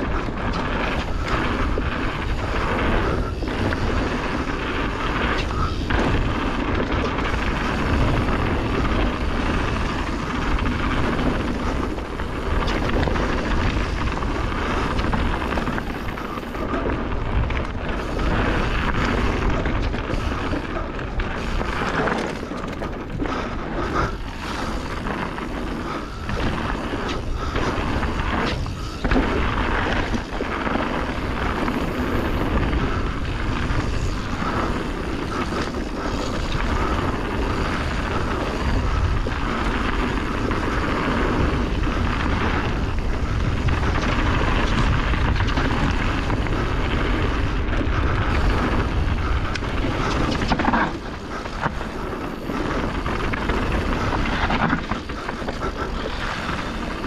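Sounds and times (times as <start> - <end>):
bike rattles and knocks: 0.0 - 57.0
tyres crunching over gravel: 0.0 - 57.0
wind rumbling on microphone: 0.0 - 57.0.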